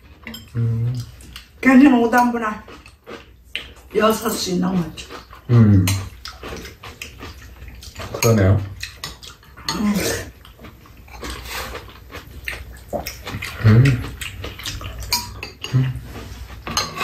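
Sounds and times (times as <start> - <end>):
slurping and chewing: 0.0 - 1.6, 2.6 - 17.0.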